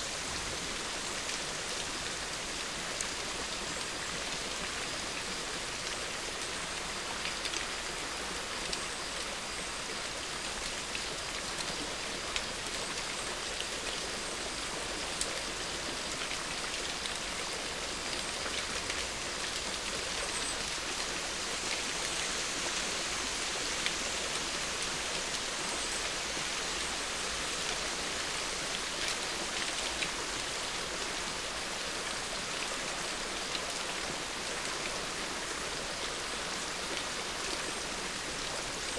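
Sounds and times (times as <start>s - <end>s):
rain-like hiss: 0.0s - 38.9s.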